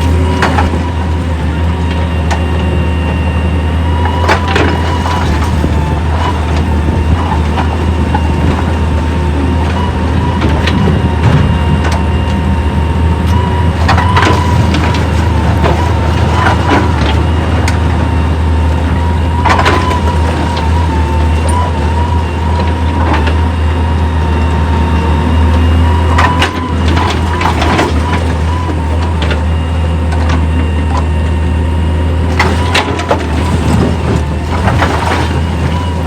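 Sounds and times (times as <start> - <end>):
low engine drone: 0.0 - 36.0
machine whine: 0.0 - 36.0.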